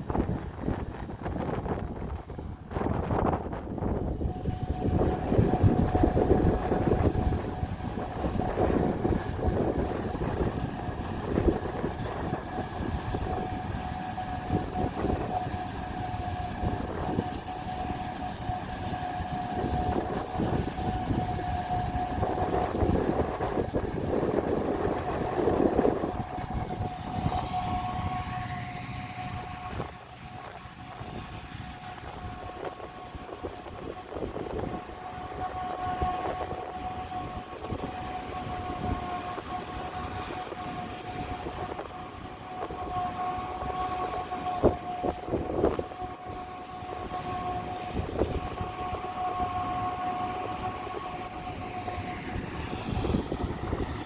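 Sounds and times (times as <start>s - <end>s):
harvest machinery whine and rumble: 0.0s - 54.0s
wind gusting on microphone: 0.0s - 54.0s.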